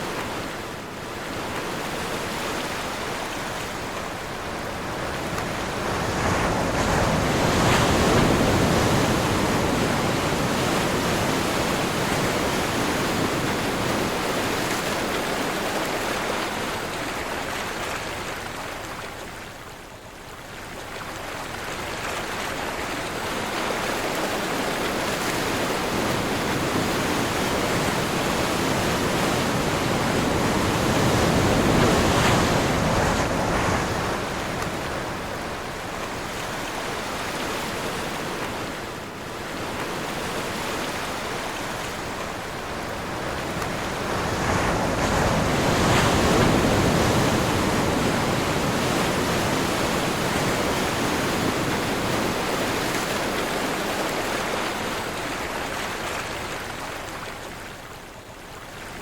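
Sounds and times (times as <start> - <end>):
sea waves washing in: 0.0 - 19.4, 21.1 - 59.0
wind: 0.0 - 59.0.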